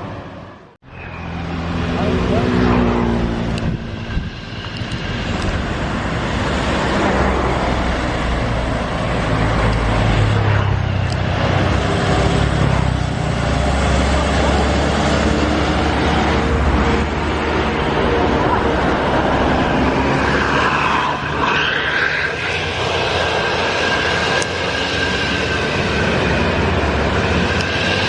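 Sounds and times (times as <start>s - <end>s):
tyre and traffic noise: 0.0s - 28.0s.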